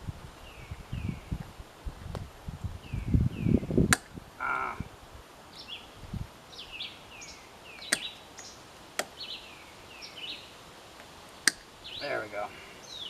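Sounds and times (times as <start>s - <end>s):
small birds chirping: 0.0s - 1.5s, 2.1s - 13.0s.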